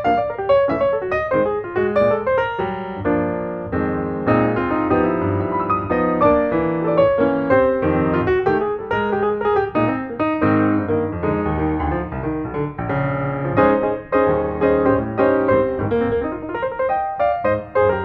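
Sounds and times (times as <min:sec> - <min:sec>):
piano background music: 0:00.0 - 0:18.0.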